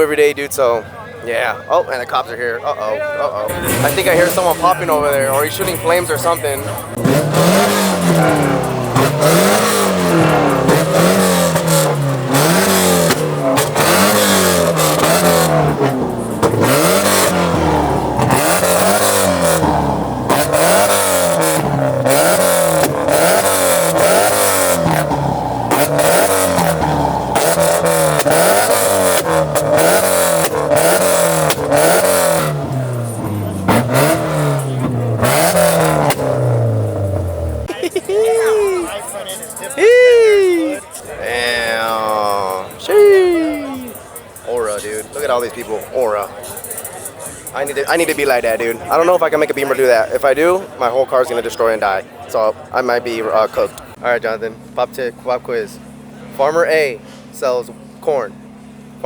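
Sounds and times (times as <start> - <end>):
crowd chatter: 0.0 - 59.0
car engine revving: 3.5 - 59.0.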